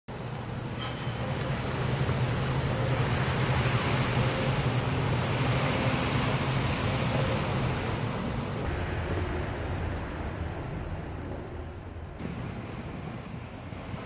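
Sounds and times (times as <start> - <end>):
low rumbling drone: 0.1 - 14.0.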